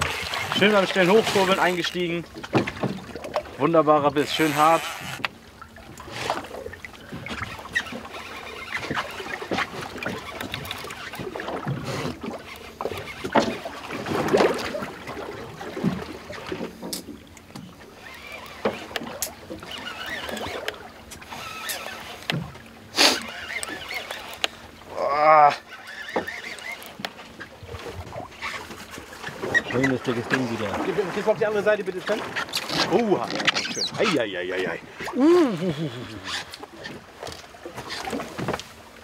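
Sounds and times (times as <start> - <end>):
water lapping against hull: 0.0 - 39.0.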